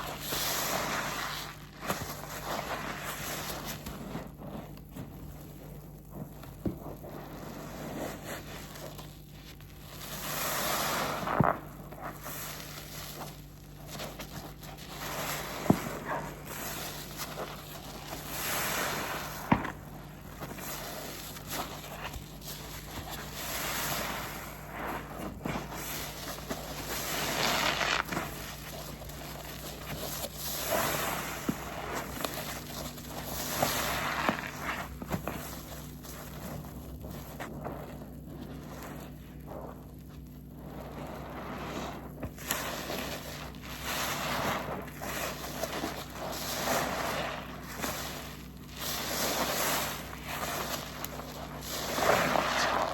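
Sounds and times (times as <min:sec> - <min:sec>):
wet sponge squishing: 0:00.0 - 0:52.9.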